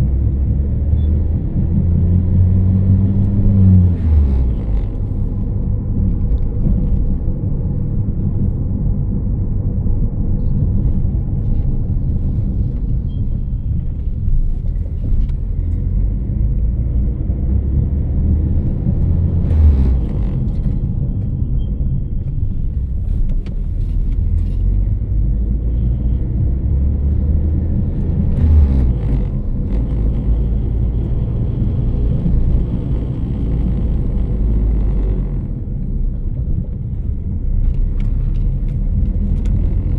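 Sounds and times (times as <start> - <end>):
low humming rumble: 0.0 - 39.9.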